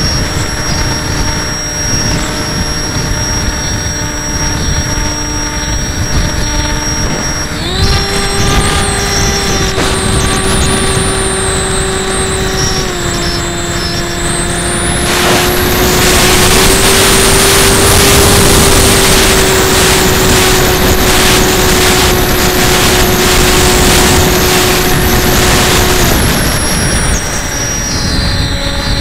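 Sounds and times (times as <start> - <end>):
electric motor and propeller whine: 0.0 - 29.0
wind rush on microphone: 0.0 - 29.0.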